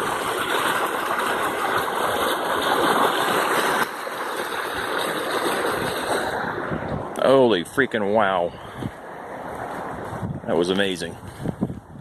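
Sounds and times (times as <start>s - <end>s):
floodwater rushing: 0.0s - 11.4s.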